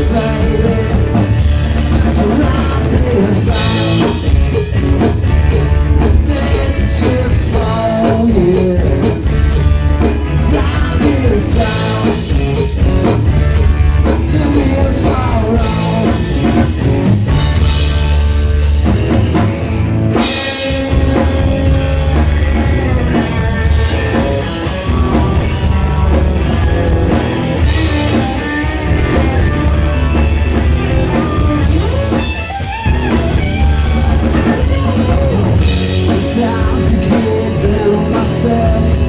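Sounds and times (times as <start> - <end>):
rock band playing: 0.0 - 39.0.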